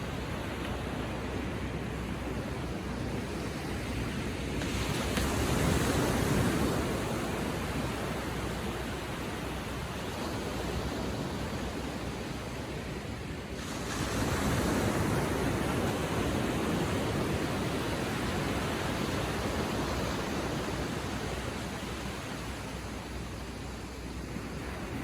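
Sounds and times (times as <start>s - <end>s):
surf lapping on beach: 0.0s - 25.0s.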